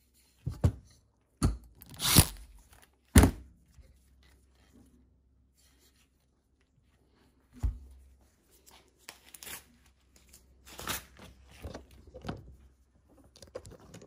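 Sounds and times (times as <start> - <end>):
rustling and crinkling: 2.5 - 14.0.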